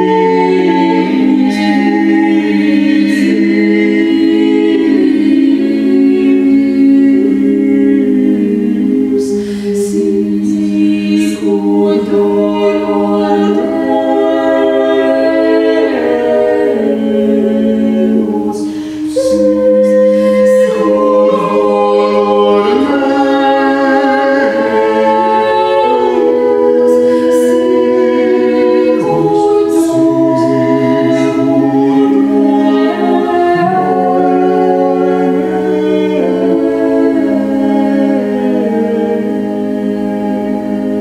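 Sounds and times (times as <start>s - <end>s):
group singing unaccompanied: 0.0s - 41.0s.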